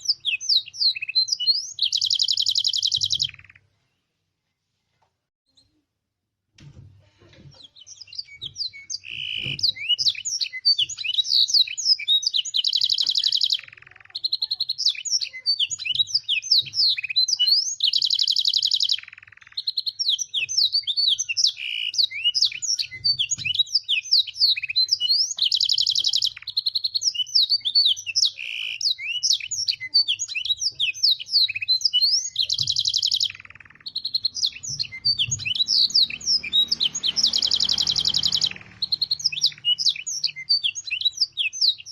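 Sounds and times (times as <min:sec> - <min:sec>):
canary singing: 0:00.0 - 0:03.7, 0:07.5 - 0:41.9.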